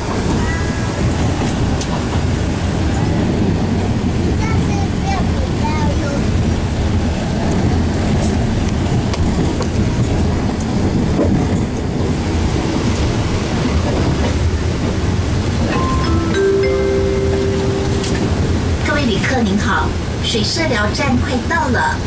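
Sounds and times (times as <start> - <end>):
train coach rumble: 0.0 - 22.0.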